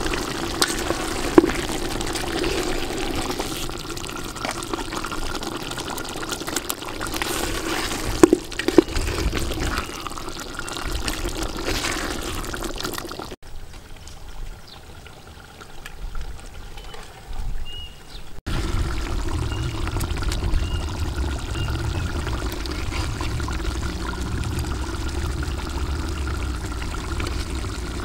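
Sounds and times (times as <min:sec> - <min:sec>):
stew simmering in pot: 0:00.0 - 0:13.4, 0:18.5 - 0:28.0.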